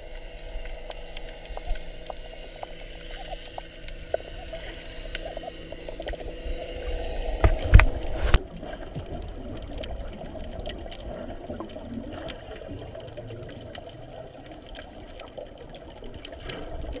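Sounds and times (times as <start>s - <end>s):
muffled underwater noise: 0.0s - 17.0s
small underwater clicks: 0.0s - 17.0s.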